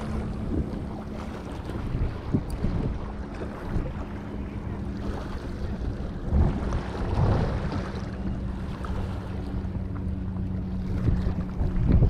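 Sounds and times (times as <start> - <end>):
light water noise: 0.0 - 12.0
steady low hum: 0.0 - 12.0
wind buffeting microphone: 0.0 - 12.0.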